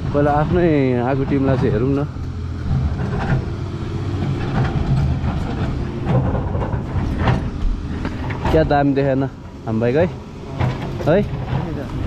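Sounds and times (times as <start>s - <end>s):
irregular clatter: 0.0s - 9.2s, 9.9s - 12.0s.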